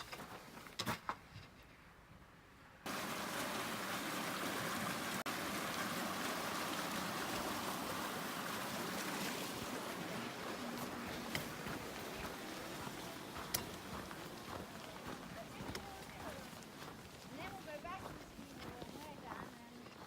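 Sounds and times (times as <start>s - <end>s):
creek water rushing: 2.8s - 20.0s.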